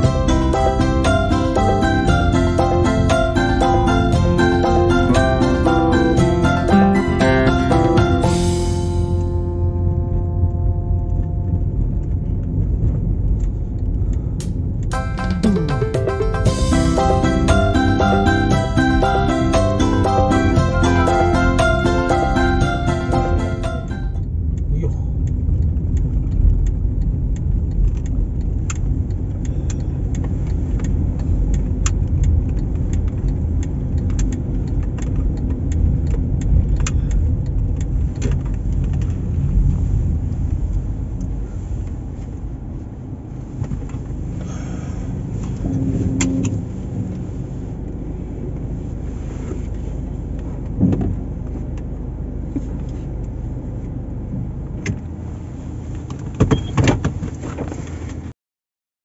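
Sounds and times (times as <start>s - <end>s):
car road and engine rumble: 0.0s - 58.3s.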